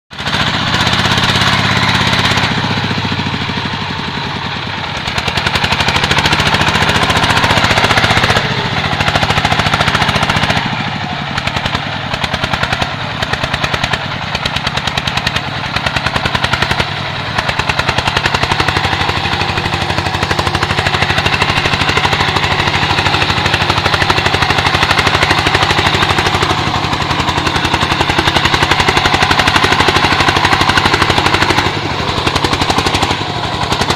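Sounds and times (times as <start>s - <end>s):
diesel engine chugging under load: 0.1s - 33.9s.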